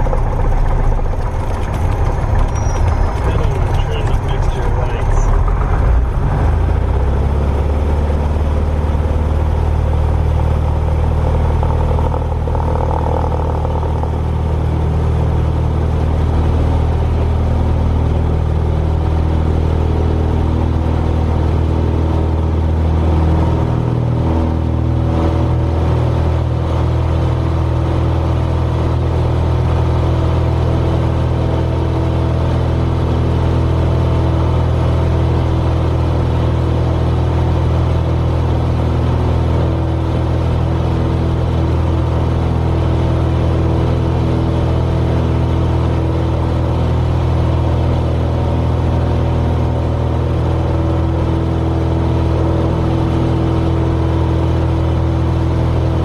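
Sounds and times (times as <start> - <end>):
light airplane engine at full power: 0.0 - 56.0.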